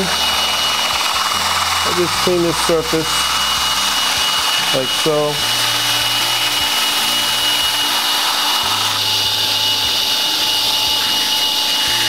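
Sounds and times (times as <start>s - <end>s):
cordless drill whining: 0.0s - 12.0s
sanding strip scraping metal: 0.0s - 12.0s.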